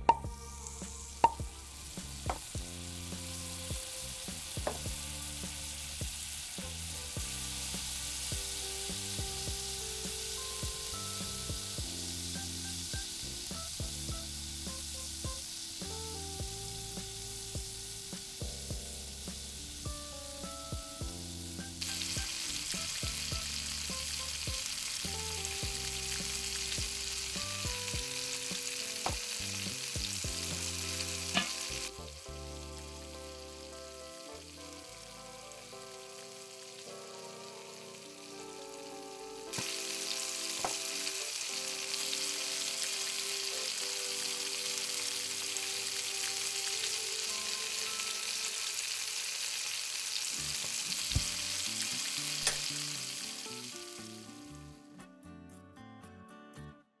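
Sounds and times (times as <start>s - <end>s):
soft background music: 0.0s - 49.0s, 50.4s - 56.9s
food sizzling in a pan: 0.0s - 54.7s.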